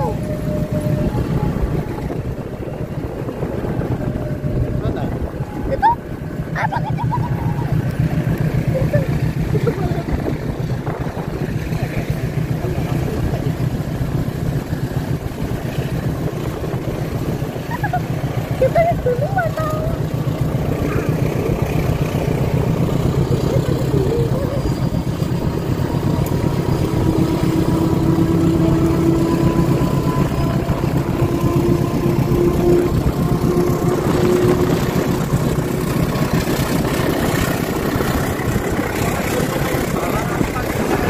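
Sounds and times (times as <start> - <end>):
wind noise: 0.0 - 18.5, 20.7 - 41.0
locomotive hum: 0.0 - 41.0
motorcycle engine: 0.0 - 41.0.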